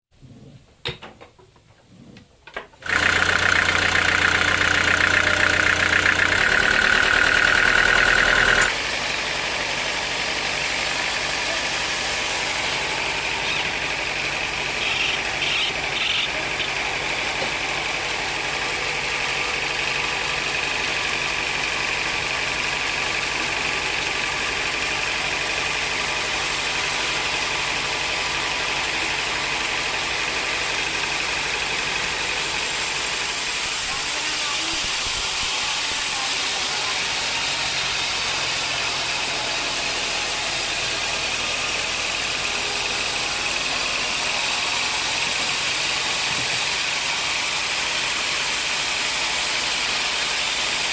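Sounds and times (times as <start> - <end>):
sawmill machinery drone with whine: 2.8 - 50.9.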